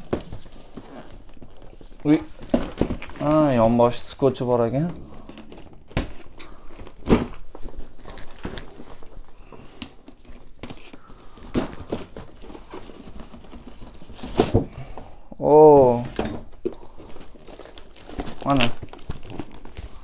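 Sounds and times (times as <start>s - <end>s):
packaging rustling and crinkling: 0.0s - 15.2s, 15.9s - 20.0s.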